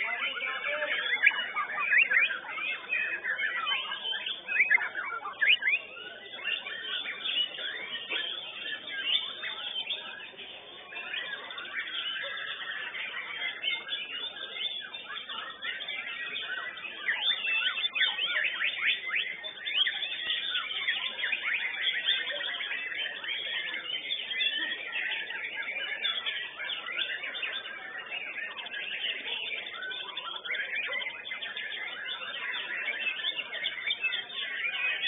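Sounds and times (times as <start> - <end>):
bird singing whistles and chirps: 0.0 - 35.0.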